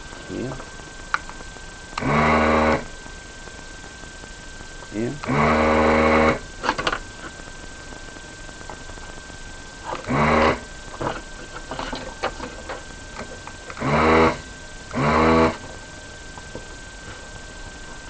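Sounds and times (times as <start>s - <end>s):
faint high whine: 0.0s - 18.0s
vacuum pump buzzing: 0.0s - 18.0s.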